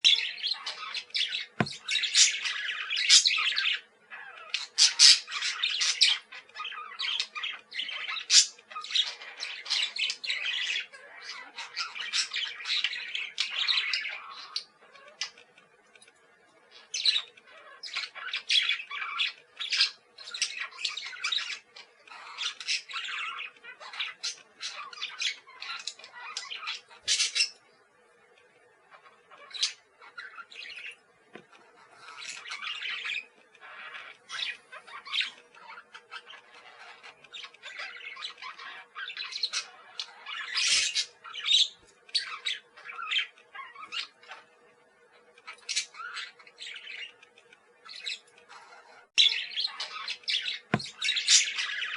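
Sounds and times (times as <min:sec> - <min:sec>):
parakeets chirping: 0:00.0 - 0:15.6, 0:16.7 - 0:27.8, 0:28.8 - 0:51.9.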